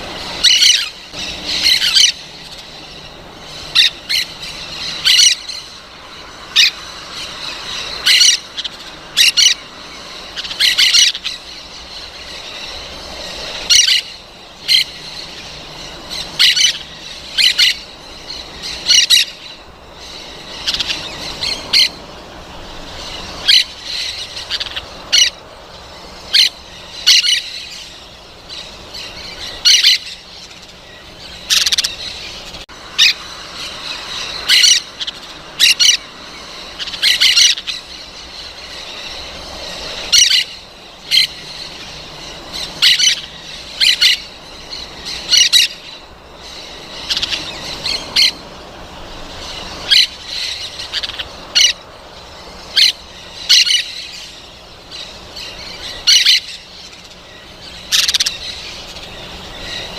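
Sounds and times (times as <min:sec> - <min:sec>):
parrots squawking: 0:00.0 - 0:59.9.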